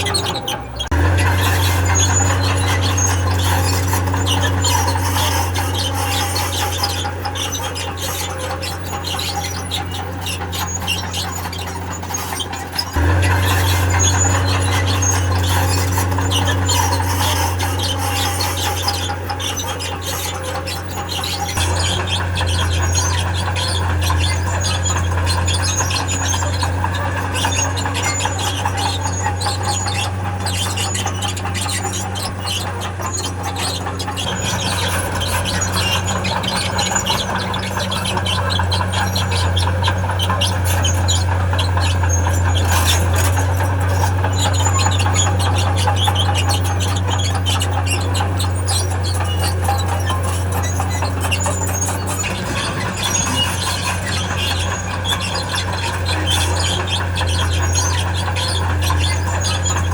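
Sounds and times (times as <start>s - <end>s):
diesel engine running: 0.0s - 59.9s
steel tracks squealing and clanking: 0.0s - 59.9s.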